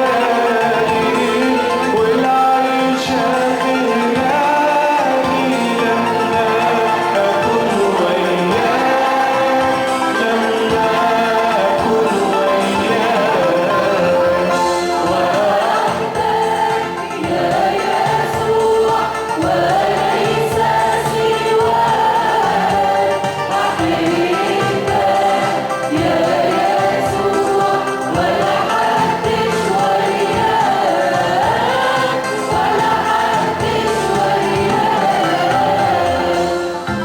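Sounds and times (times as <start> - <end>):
instrumental accompaniment: 0.0 - 37.0
voices singing a hymn: 0.0 - 37.0.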